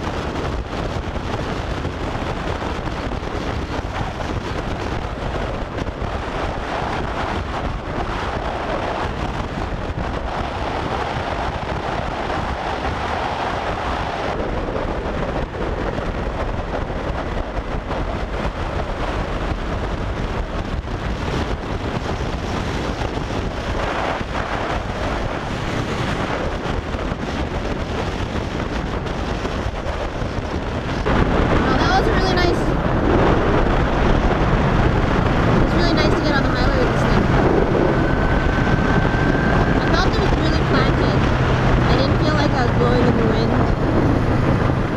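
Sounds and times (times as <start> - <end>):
road noise: 0.0 - 44.9
wind rushing over microphone: 0.0 - 44.9.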